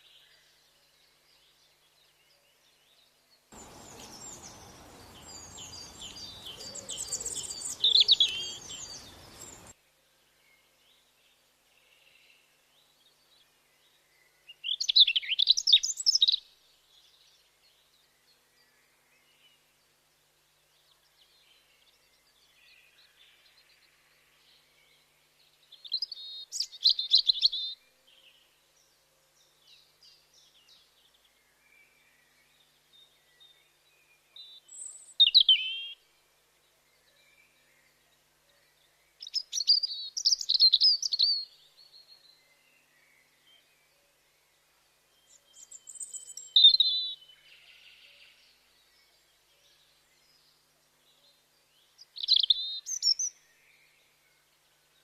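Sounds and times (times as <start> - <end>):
background noise: 0.0 - 55.0
songbirds chirping: 0.0 - 55.0.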